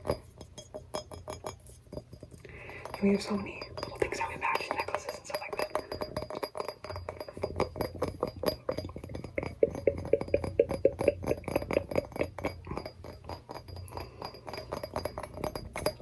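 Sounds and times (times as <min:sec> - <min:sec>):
rapid ringing taps on tea maker: 0:00.0 - 0:16.0.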